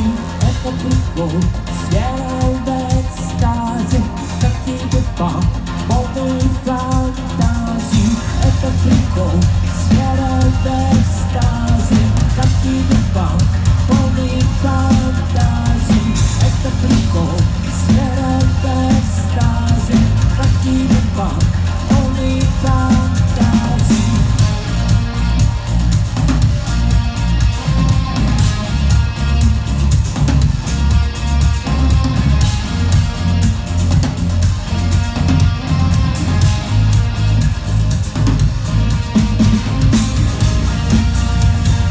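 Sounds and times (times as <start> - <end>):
melodic lead line: 0.0 - 41.9
rock band playing live: 0.0 - 41.9.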